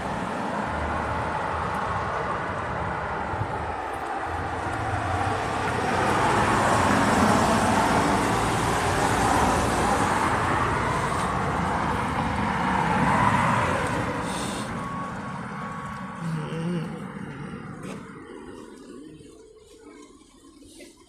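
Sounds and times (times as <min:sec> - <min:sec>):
bus road and tyre noise: 0:00.0 - 0:21.0
passing city traffic: 0:00.0 - 0:21.0.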